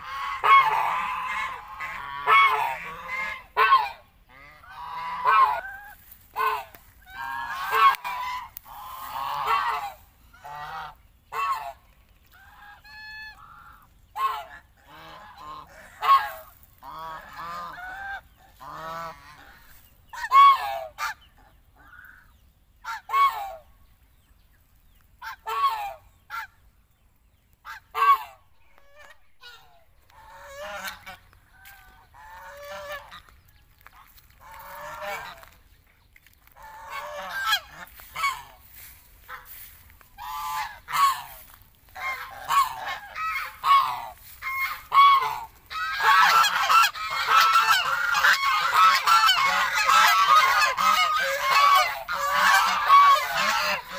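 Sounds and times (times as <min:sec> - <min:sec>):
geese honking: 0:00.0 - 0:23.7, 0:25.2 - 0:26.7, 0:27.6 - 0:53.9.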